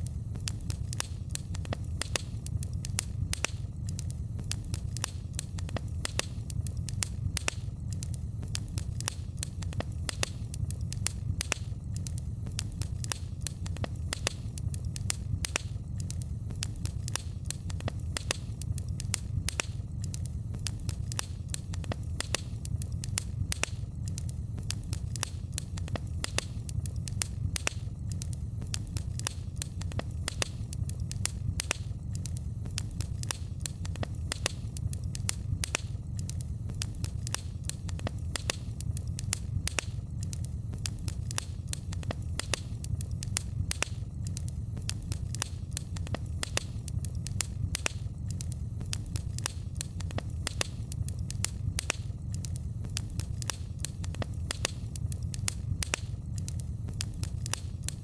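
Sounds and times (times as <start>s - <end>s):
low rumble of flames: 0.0s - 58.0s
wood fire popping and snapping: 0.0s - 58.0s.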